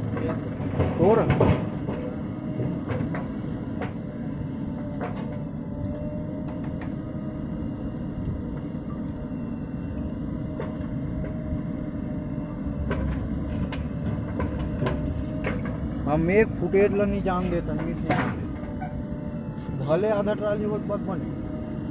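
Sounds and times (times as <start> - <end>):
diesel engine rumble: 0.0 - 21.9.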